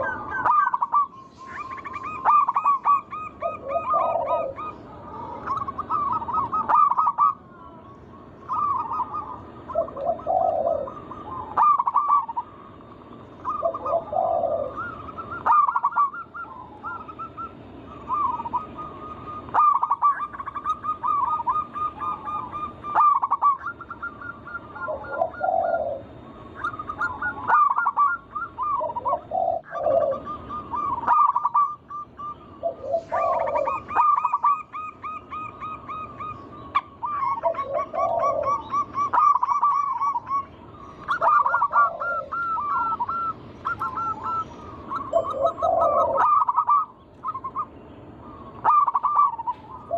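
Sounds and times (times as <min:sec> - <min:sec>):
doves cooing trills: 0:00.0 - 0:49.9.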